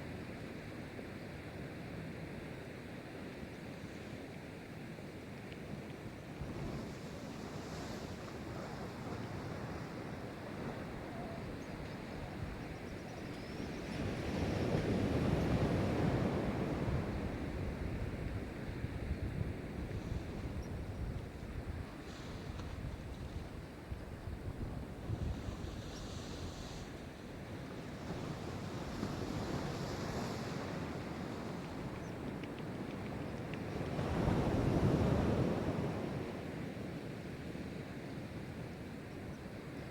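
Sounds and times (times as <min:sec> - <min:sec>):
ocean surf breaking on shore: 0:06.3 - 0:38.4.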